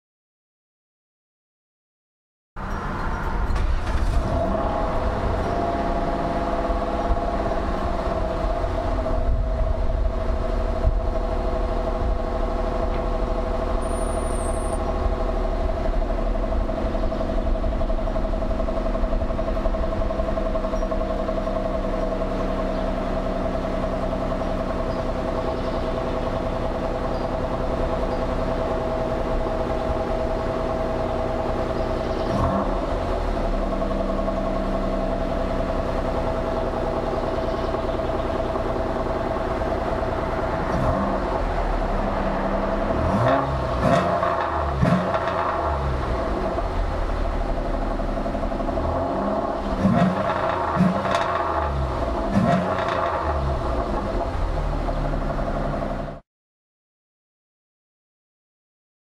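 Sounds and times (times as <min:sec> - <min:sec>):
rasping car exhaust: 0:02.8 - 0:56.0.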